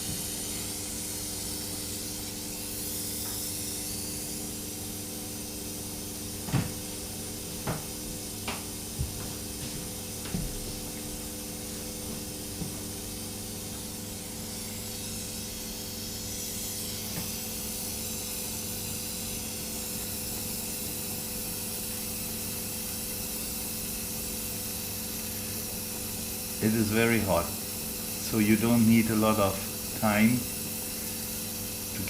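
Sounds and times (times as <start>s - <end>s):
electrical hum: 0.0s - 32.0s
torch flame hissing: 0.0s - 32.0s.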